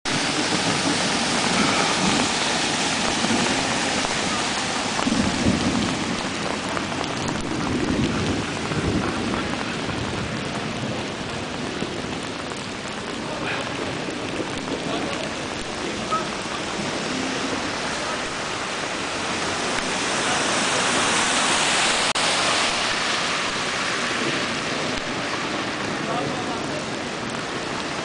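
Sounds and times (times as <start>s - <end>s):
heavy rain pouring: 0.0s - 28.0s
low thunder rumbles: 0.1s - 21.5s, 22.9s - 28.0s.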